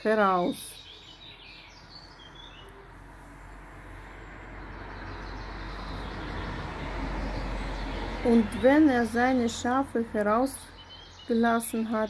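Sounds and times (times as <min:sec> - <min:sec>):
vehicle passing with low rumble: 0:00.8 - 0:11.5.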